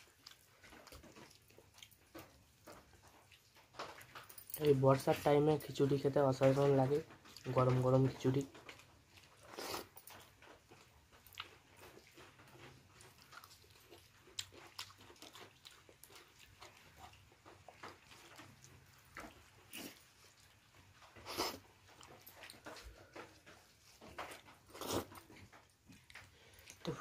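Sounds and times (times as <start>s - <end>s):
person chewing with mouth clicks: 0.0s - 5.3s, 6.4s - 27.0s.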